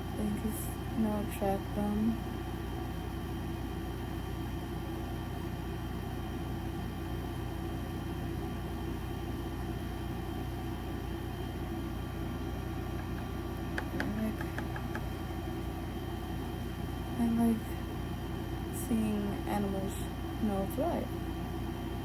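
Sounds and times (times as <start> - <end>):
electric fan humming: 0.0 - 22.0.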